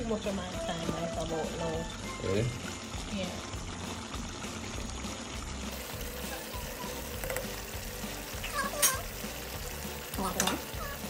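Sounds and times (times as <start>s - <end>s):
steady hiss from pot: 0.0s - 11.0s.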